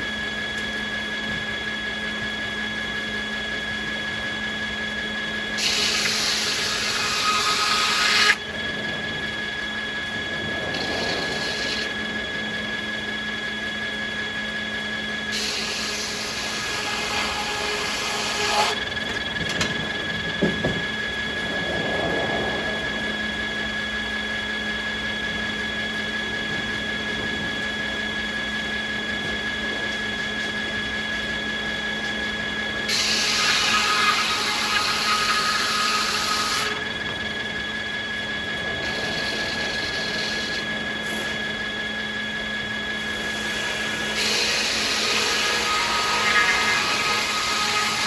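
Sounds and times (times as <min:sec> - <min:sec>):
sawmill machinery humming: 0:00.0 - 0:48.0.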